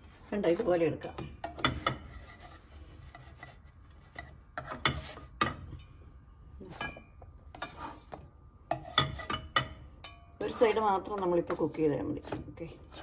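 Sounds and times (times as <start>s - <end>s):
spatula scraping and knocking pans: 0.0s - 6.0s, 6.6s - 13.0s.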